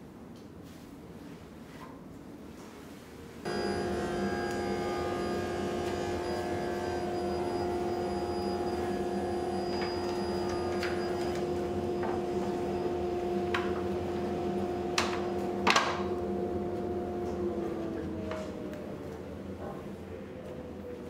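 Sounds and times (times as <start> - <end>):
steady two-tone hum: 3.0 - 21.0.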